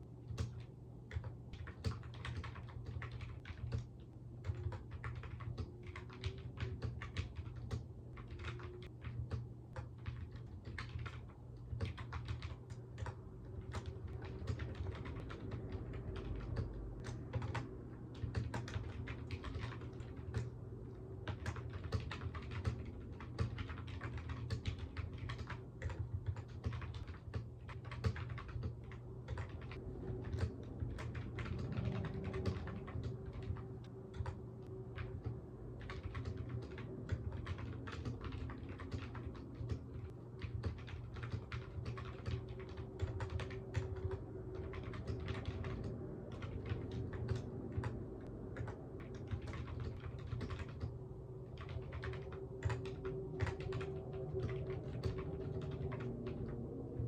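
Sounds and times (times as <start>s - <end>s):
low steady hum: 0.0s - 57.0s
keyboard typing clicks: 0.2s - 20.6s, 21.2s - 48.0s, 48.6s - 51.0s, 51.6s - 56.6s.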